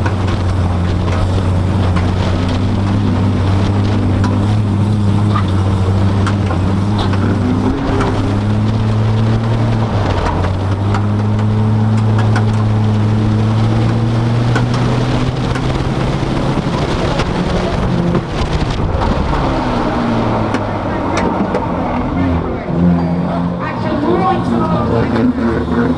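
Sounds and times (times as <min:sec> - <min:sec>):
tyre and wind noise: 0:00.0 - 0:25.7
car engine hum: 0:00.0 - 0:25.9.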